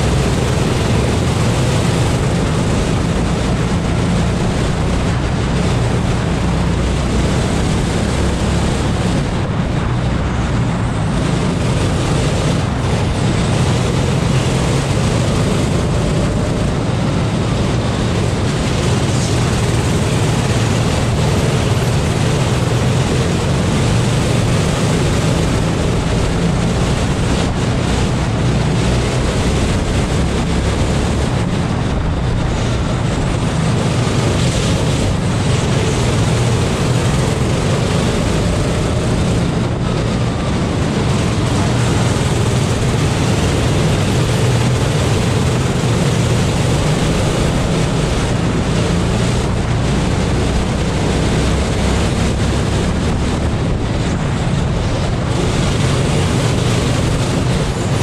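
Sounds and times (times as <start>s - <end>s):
kart engine racing: 0.0s - 58.0s
wind buffeting microphone: 0.0s - 58.0s.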